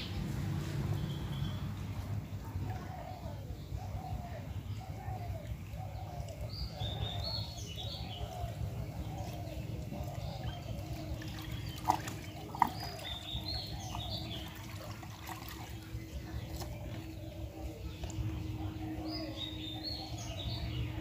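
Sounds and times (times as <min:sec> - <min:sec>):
birds calling and singing: 0:00.0 - 0:21.0.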